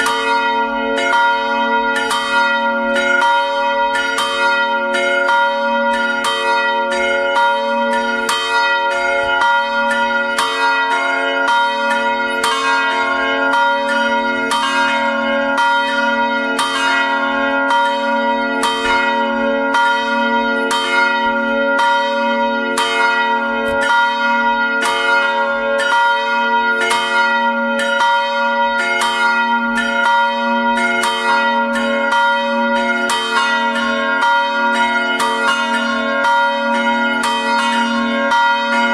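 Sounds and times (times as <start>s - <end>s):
church bells ringing in peal: 0.0s - 38.9s.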